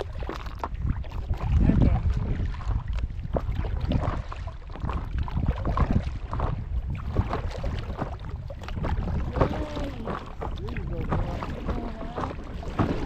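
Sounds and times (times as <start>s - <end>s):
paddle strokes splashing water: 0.0s - 13.0s
wind rumble on microphone: 0.0s - 13.0s.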